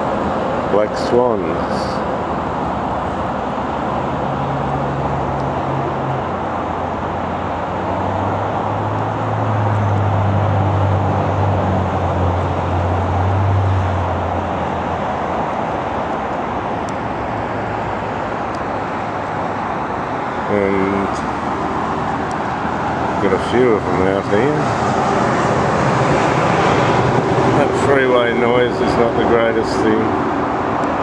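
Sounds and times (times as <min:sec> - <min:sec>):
freeway traffic roar: 0:00.0 - 0:31.0.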